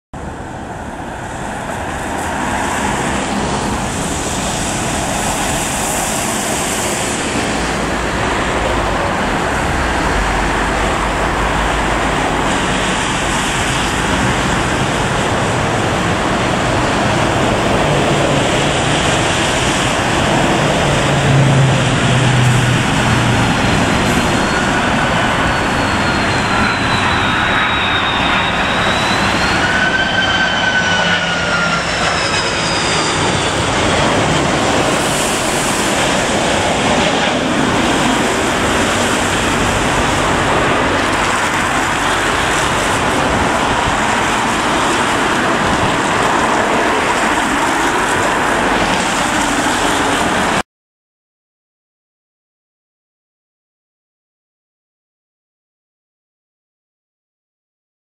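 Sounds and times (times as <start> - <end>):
jet airliner passing: 0.2 - 50.6
jet engine whines: 0.2 - 50.6.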